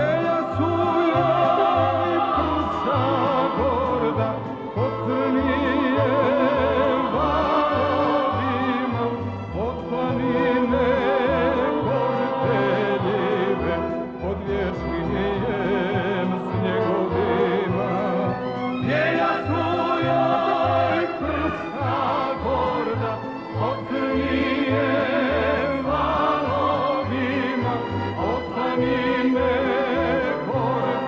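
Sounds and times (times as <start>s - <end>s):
slow song with vibrato: 0.0s - 31.0s.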